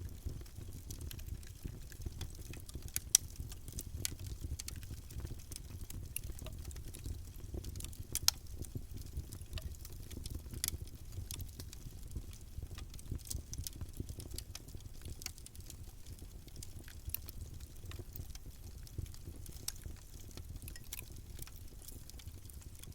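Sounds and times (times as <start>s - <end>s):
wood crackling and popping: 0.0s - 22.9s.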